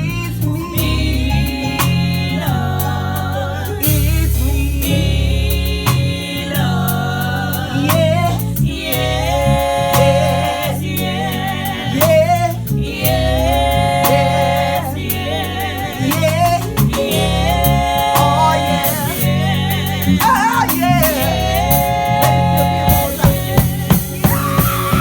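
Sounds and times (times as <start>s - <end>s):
bass line: 0.0s - 25.0s
steady drum beats: 3.8s - 25.0s.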